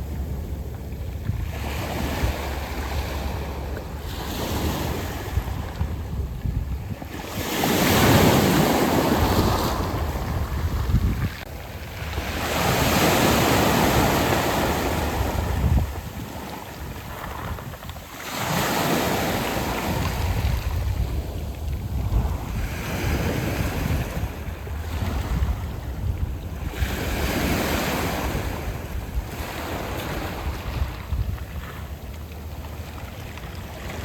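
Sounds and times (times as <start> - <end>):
waves on pebble beach: 1.2 - 34.0.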